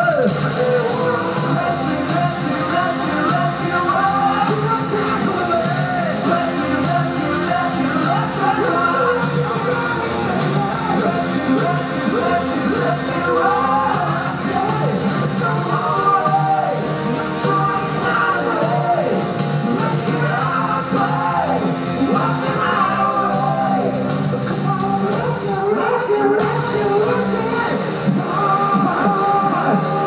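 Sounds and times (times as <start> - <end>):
drums: 0.0 - 30.0
electric guitars: 0.0 - 30.0
person singing: 0.0 - 30.0.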